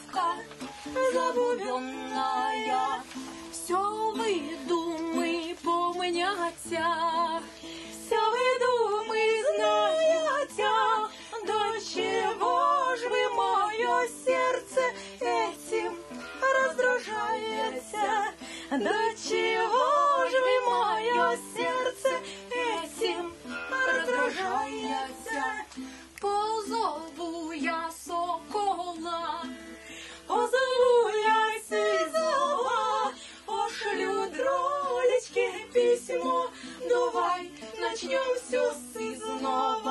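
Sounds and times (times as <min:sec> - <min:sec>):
acoustic guitar: 0:00.0 - 0:39.9
woman singing: 0:00.0 - 0:39.9.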